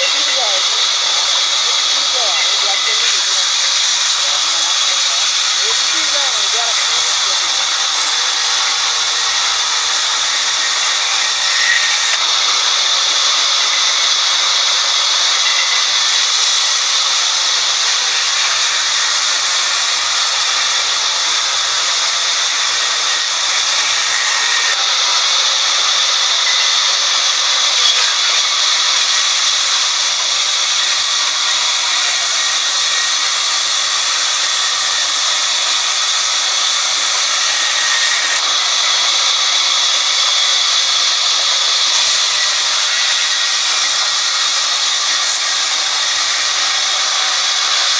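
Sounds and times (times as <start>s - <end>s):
band saw cutting log: 0.0s - 47.9s.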